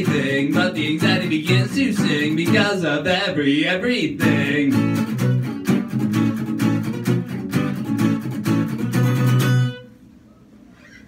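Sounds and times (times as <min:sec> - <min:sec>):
acoustic guitar strumming chords: 0:00.0 - 0:10.1.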